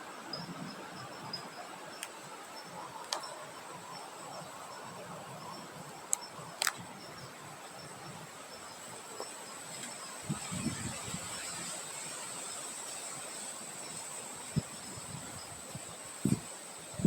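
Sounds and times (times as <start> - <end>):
insects trilling and chirping: 0.0 - 17.0.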